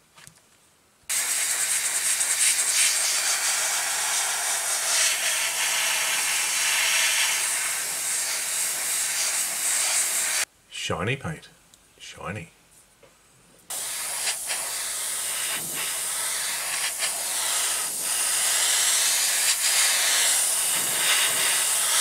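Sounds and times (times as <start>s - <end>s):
airbrush hissing: 1.1s - 10.5s, 13.7s - 22.0s.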